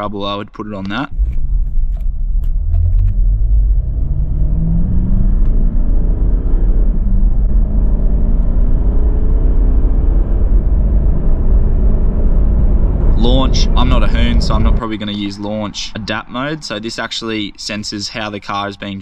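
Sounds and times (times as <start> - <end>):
road noise: 0.0 - 19.0
diesel engine accelerating: 0.8 - 18.8.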